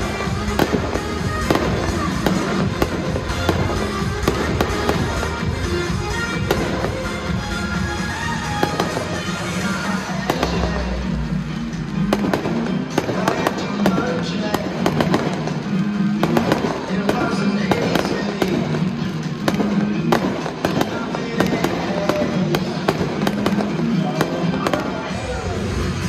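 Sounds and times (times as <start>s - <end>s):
fireworks cracking and popping: 0.0s - 11.1s, 12.0s - 26.0s
music over sound system: 0.0s - 26.0s.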